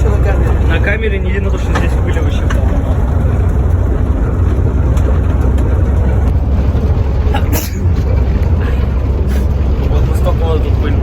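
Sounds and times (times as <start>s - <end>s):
tyres and engine rumbling: 0.0s - 11.0s.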